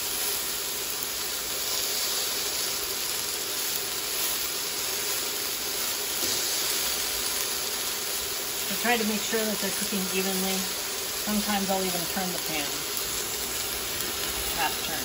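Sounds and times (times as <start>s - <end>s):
pork chops sizzling in oil: 0.0s - 15.0s.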